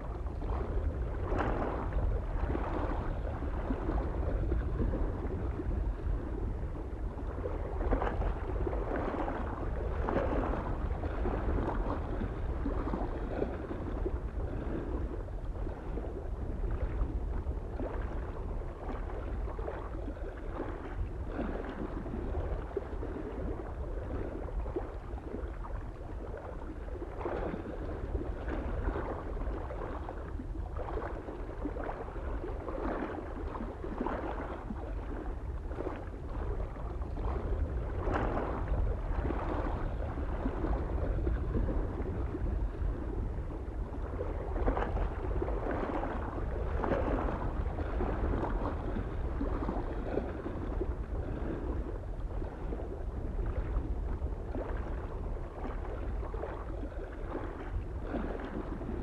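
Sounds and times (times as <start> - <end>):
small waves lapping on shore: 0.0 - 59.0
soft wind rumble: 0.0 - 59.0.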